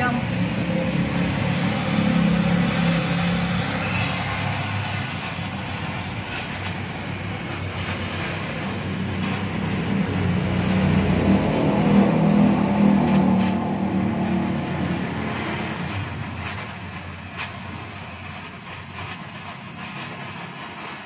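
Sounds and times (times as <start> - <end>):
gas welding torch hissing: 0.0 - 21.0.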